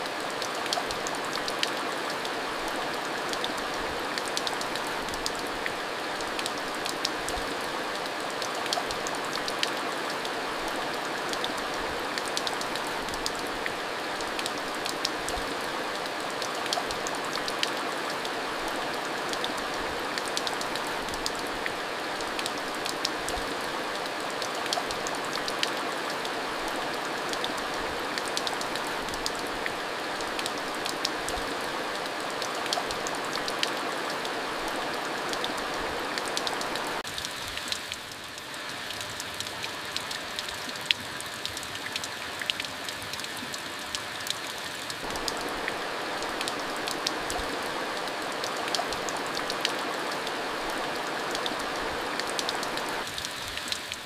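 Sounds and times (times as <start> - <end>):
steady rain: 0.0 - 54.0
raindrops ticking on surface: 0.1 - 54.0.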